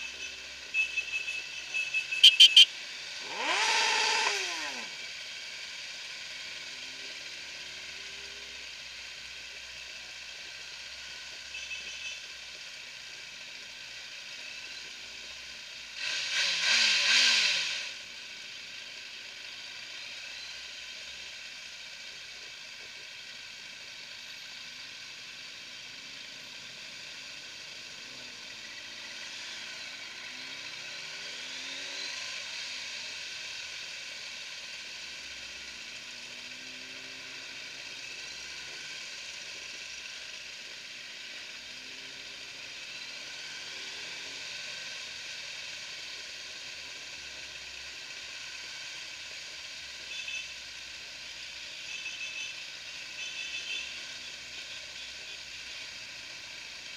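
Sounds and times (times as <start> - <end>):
motorcycle engines: 0.0 - 56.9.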